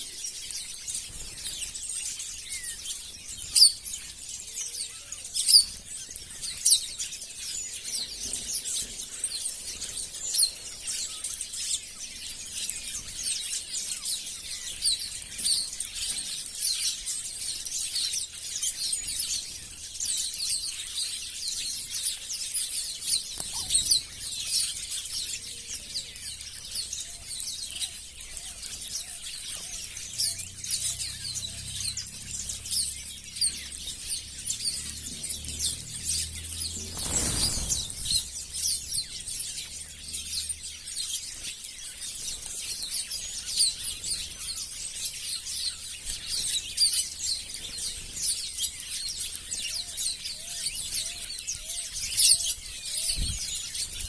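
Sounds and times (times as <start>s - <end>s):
flock of small birds chirping: 0.0s - 54.0s.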